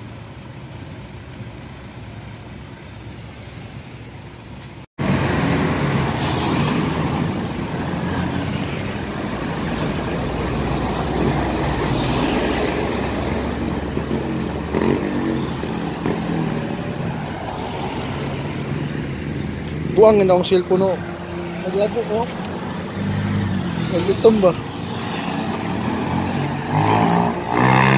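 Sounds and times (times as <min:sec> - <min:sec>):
vehicle engine rumbling: 0:00.0 - 0:27.9.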